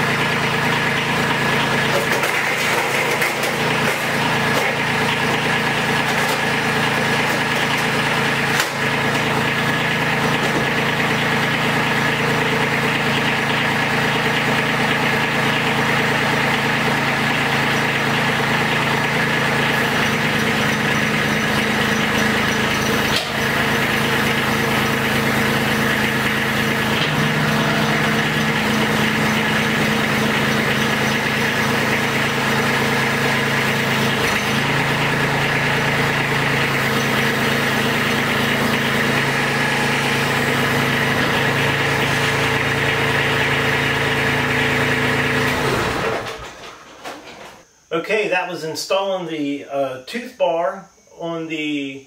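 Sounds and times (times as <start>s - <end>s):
diesel tractor engine running: 0.0s - 47.4s.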